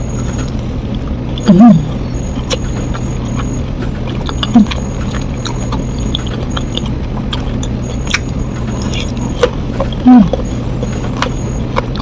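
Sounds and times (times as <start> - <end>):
chewing crispy food: 0.0 - 12.0
steady low hum: 0.0 - 12.0.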